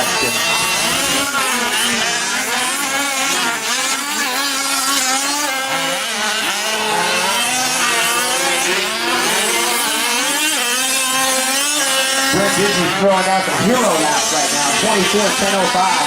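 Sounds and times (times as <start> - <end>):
small two-stroke engines racing: 0.0 - 16.0.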